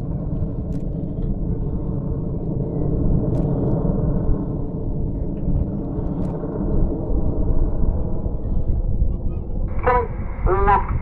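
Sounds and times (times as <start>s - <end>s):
jet aircraft roaring overhead: 0.0s - 11.0s.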